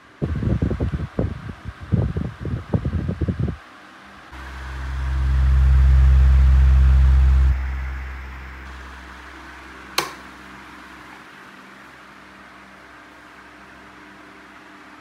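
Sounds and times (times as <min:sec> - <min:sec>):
desk fan blowing on microphone: 0:00.0 - 0:14.9.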